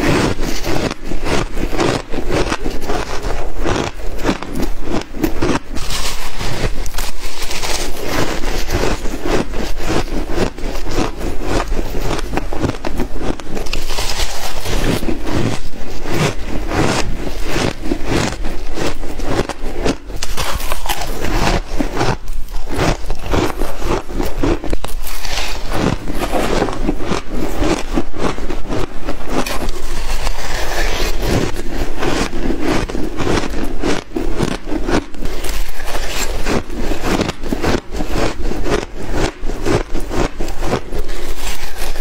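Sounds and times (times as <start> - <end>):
crunching shaved ice: 0.0 - 42.0.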